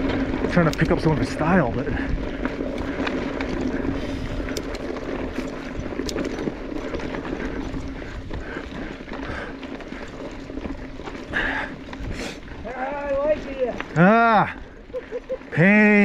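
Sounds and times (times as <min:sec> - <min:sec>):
bike tyre and frame rattle: 0:00.0 - 0:16.0
stones and chain clicking: 0:00.0 - 0:16.0.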